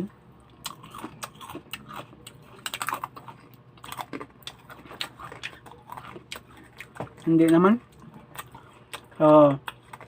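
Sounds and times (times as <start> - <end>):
crunching crispy food: 0.5 - 10.0.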